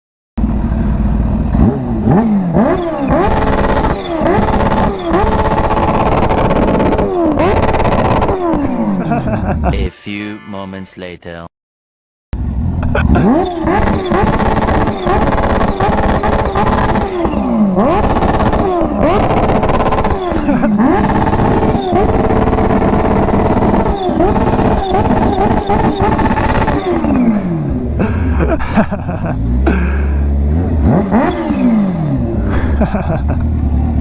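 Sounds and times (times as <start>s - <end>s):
vehicle engine revving: 0.4s - 9.4s, 12.4s - 34.0s.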